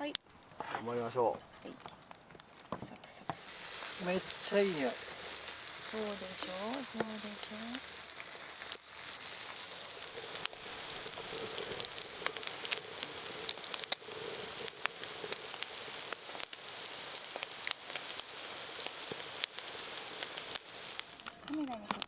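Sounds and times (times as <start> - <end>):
food sizzling in a pan: 2.7 - 22.0.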